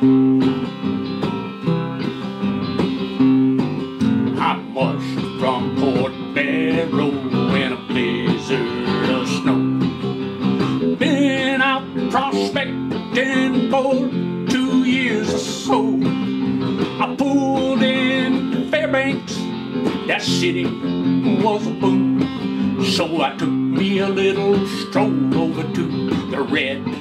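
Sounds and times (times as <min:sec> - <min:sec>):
acoustic guitar strummed and picked: 0:00.0 - 0:27.0.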